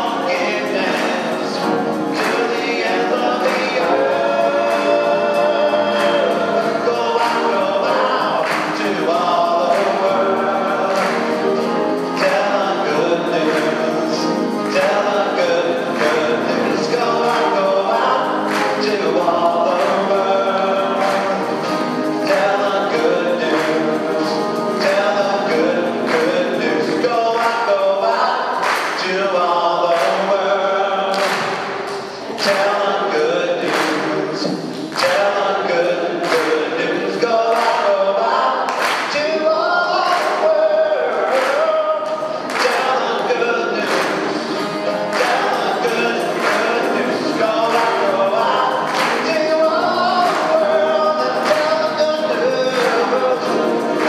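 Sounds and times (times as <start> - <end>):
acoustic guitar: 0.0 - 54.0
mixed choir singing a hymn: 0.0 - 54.0.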